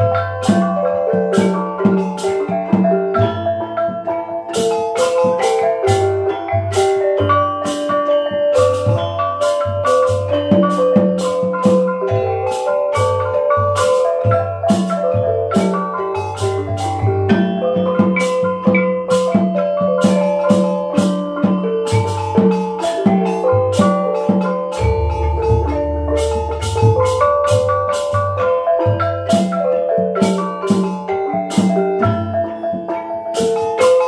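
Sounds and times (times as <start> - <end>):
barrel drum beats: 0.0 - 34.0.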